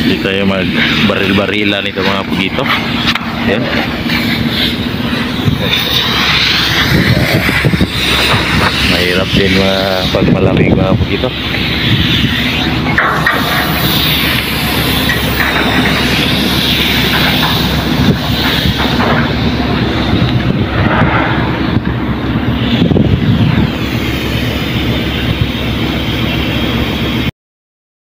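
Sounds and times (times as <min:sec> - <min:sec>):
wind on microphone: 0:00.0 - 0:25.8
ship machinery droning: 0:00.0 - 0:27.3.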